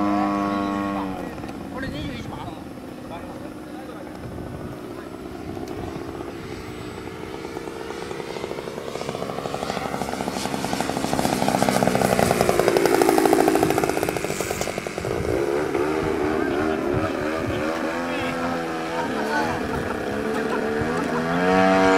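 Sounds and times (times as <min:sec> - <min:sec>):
model airplane engine buzzing: 0:00.0 - 0:21.9.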